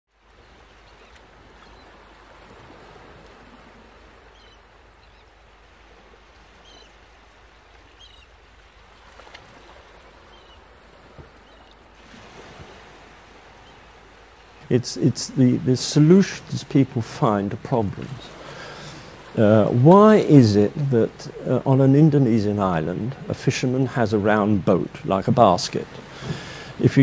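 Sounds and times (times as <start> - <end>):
rushing water: 0.1 - 27.0.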